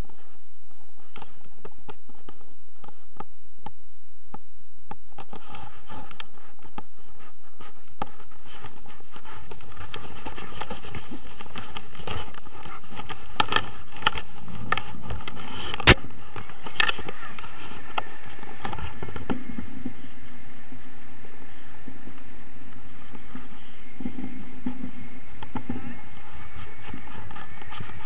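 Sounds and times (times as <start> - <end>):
wind noise: 0.0 - 28.0.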